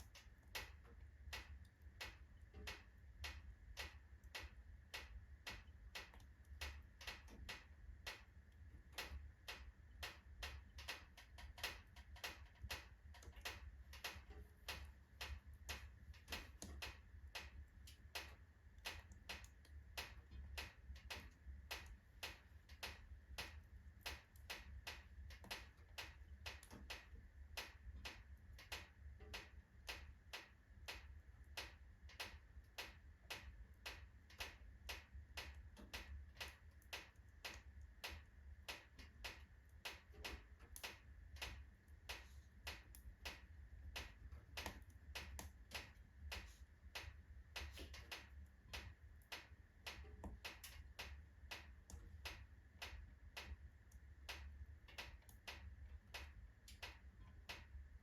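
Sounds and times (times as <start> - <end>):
logs crackling in a fireplace: 0.0 - 58.0
low steady hum: 0.0 - 58.0.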